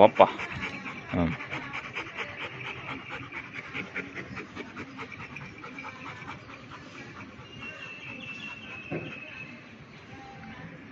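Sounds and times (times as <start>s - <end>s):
dog panting: 0.0s - 10.1s.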